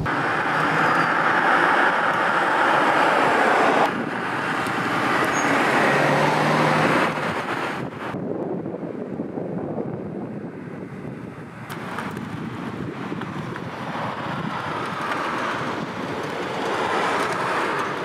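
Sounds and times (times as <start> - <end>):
tyre and road noise: 0.0 - 18.0.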